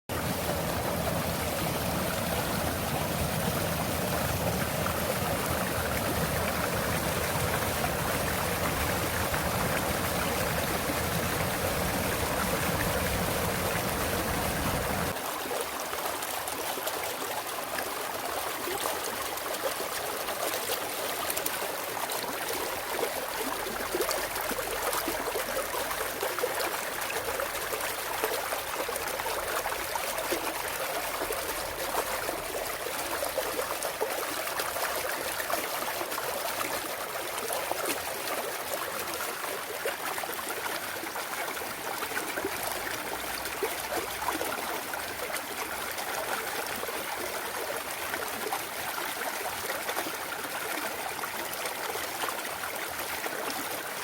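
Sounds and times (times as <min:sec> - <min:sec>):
stream flowing over rocks: 0:00.1 - 0:54.0.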